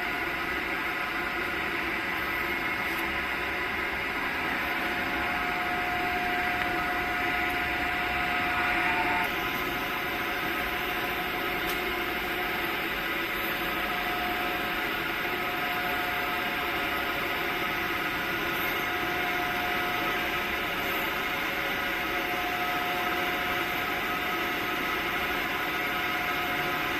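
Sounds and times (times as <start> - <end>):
factory machinery hum and hiss: 0.0 - 26.9
faint steady tones: 0.0 - 26.9.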